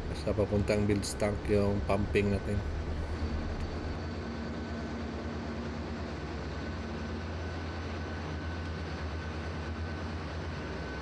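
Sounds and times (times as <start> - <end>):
engine room machinery drone: 0.0 - 11.0.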